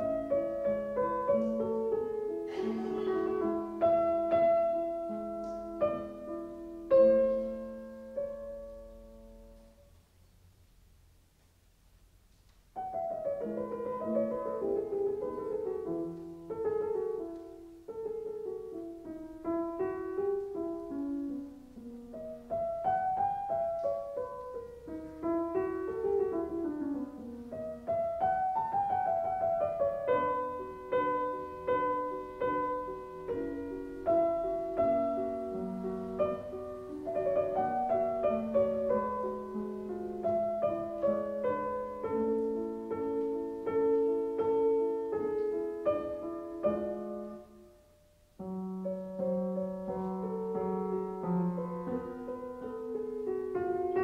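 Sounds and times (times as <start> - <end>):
piano music: 0.0 - 10.3, 12.0 - 54.0.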